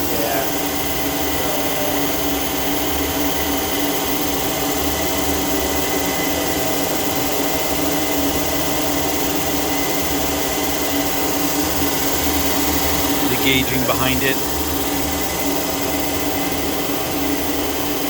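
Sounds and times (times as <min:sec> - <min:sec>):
grinder machine humming: 0:00.0 - 0:18.0.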